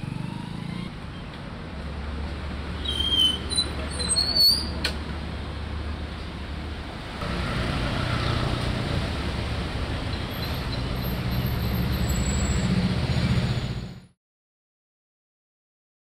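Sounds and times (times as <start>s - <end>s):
road traffic rumble: 0.0s - 14.2s.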